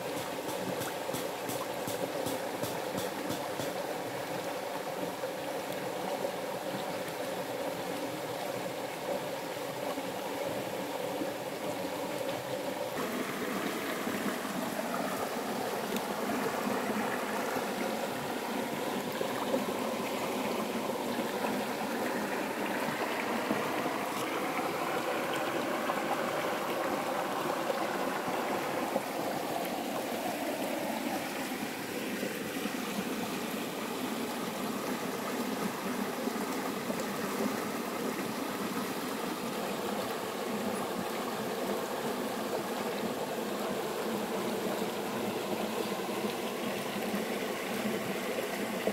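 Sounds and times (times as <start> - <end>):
river water rippling over stones: 0.0 - 48.9.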